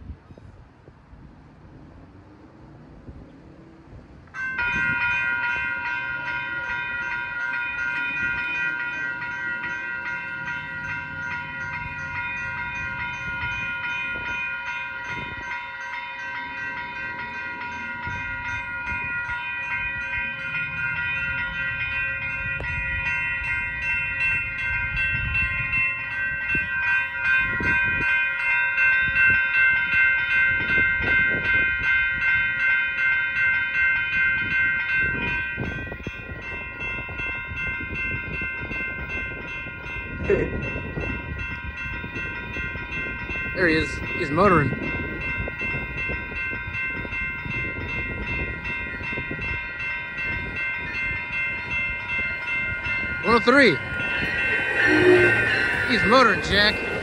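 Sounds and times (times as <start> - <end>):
railroad crossing bell ringing: 4.3 - 57.0.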